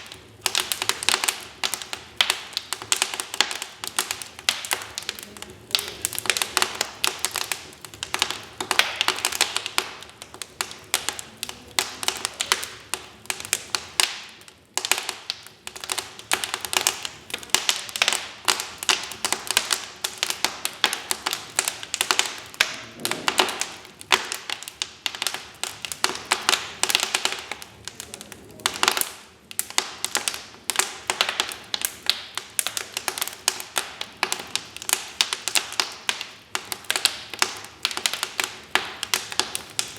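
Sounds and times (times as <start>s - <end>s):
soft hiss of burning: 0.0s - 39.9s
wood fire crackling: 0.0s - 39.9s.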